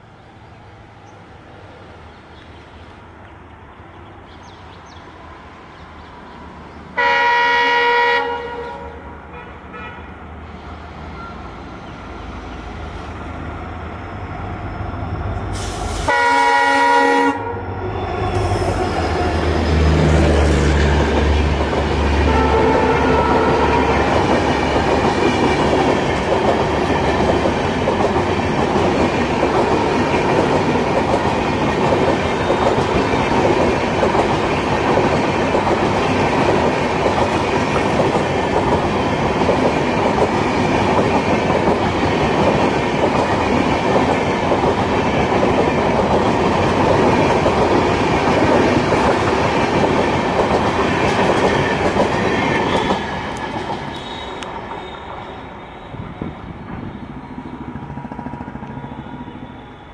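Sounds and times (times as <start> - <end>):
train coaches passing at speed: 0.0 - 59.9.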